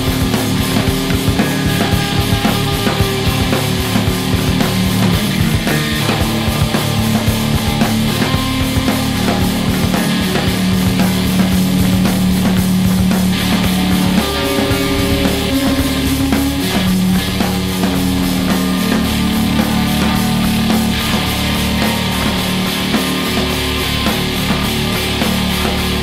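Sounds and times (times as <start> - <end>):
rock band music: 0.0 - 26.0.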